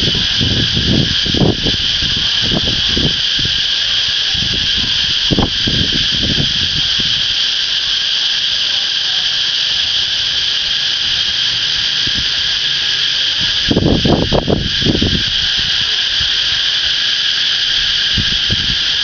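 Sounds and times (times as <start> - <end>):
cicadas buzzing: 0.0 - 19.0.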